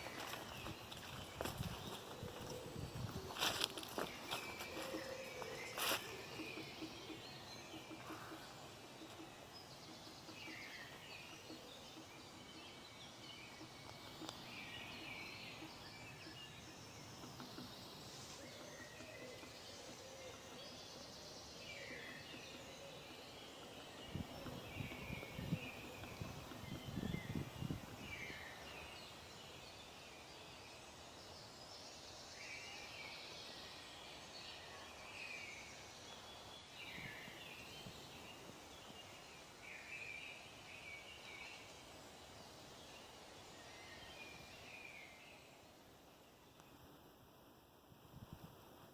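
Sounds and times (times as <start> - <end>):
bird calls and chirps: 0.0 - 47.0
steady outdoor hiss: 0.0 - 48.9.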